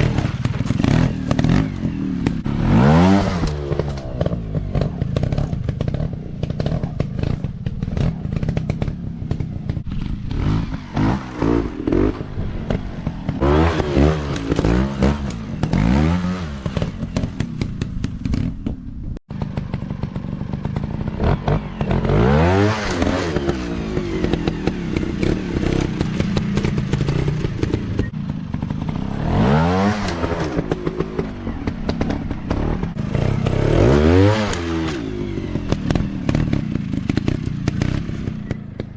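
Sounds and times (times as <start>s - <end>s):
dirt bike engines revving: 0.0s - 18.3s, 19.4s - 38.9s
clatter: 0.0s - 38.9s.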